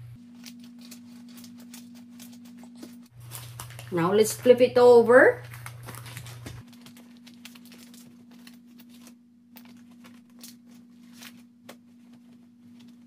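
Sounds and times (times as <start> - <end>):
low steady hum: 0.0 - 13.0
paper towel crinkling: 0.2 - 4.5, 5.4 - 13.0.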